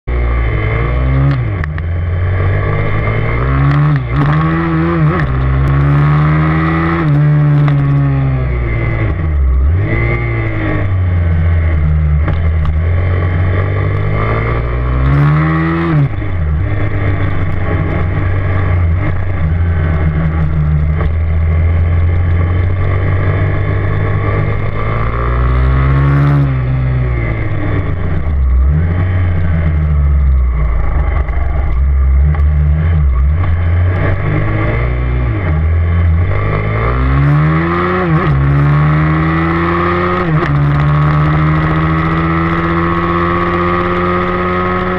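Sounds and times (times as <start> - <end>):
motorbike engine revving: 0.1 - 44.9.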